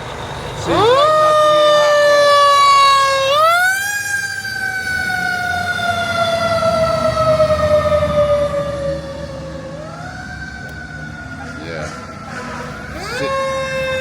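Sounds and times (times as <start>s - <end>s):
fire truck siren wailing: 0.0s - 14.0s.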